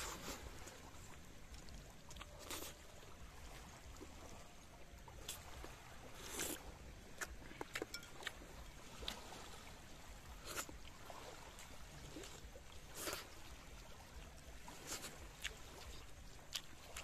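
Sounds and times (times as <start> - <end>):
small waves lapping at shore: 0.0 - 17.0.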